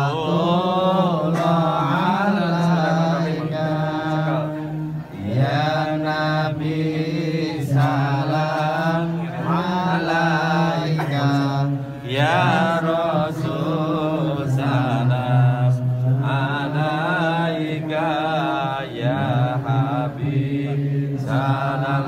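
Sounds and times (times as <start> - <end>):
group of voices chanting in unison: 0.0 - 22.0.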